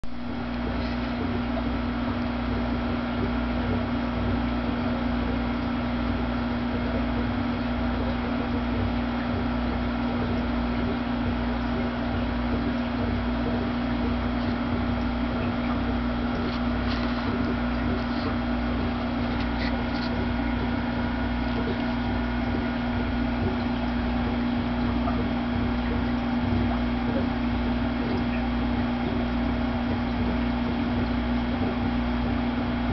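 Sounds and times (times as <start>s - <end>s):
mechanical hum with low throb: 0.0s - 32.9s.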